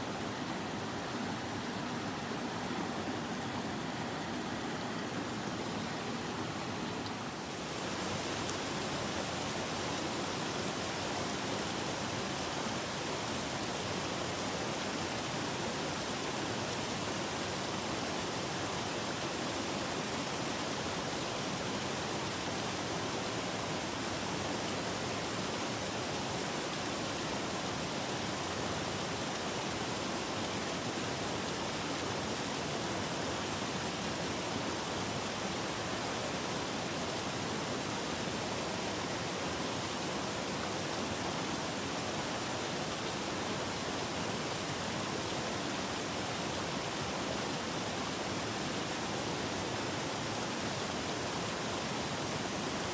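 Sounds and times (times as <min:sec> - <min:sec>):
stream rushing over rocks: 0:00.0 - 0:52.9.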